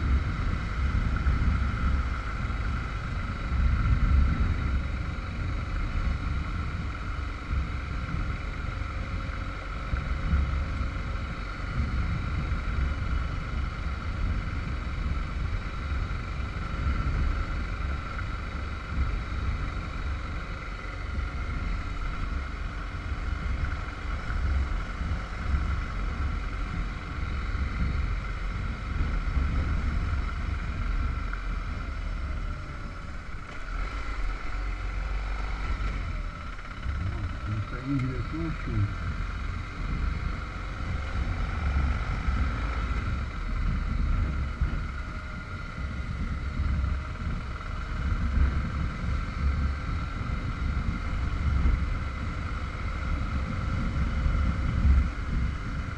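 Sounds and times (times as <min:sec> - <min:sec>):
constant hum: 0:00.0 - 0:55.9
motorcycle engine and road drone: 0:00.0 - 0:55.9.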